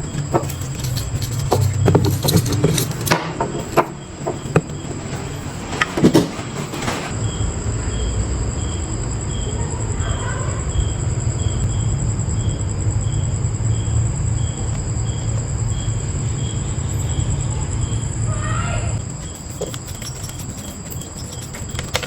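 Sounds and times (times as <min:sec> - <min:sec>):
high insect trill: 0:00.0 - 0:22.0
insects chirping: 0:00.0 - 0:22.0.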